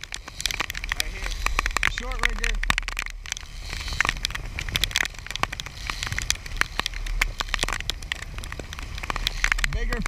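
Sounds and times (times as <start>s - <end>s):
low steady rumble: 0.0s - 10.0s
rapid irregular crackling: 0.0s - 10.0s
wind and spray on a boat: 0.0s - 10.0s.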